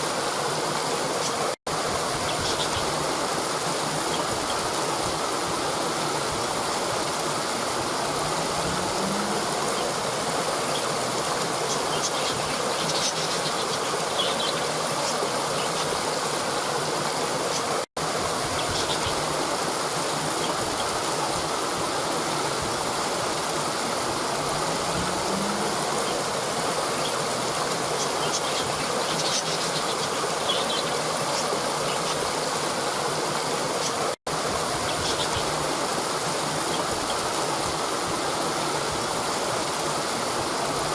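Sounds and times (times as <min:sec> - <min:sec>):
waterfall pouring over rocks: 0:00.0 - 0:40.9.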